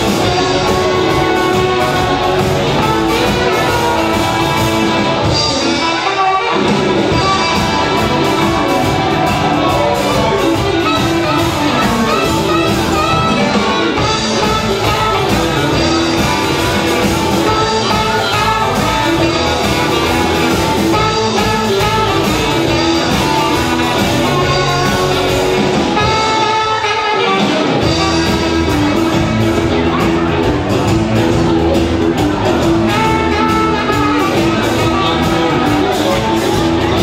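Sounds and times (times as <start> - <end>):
electric guitars: 0.0 - 37.0
live band playing: 0.0 - 37.0
saxophone: 0.0 - 37.0.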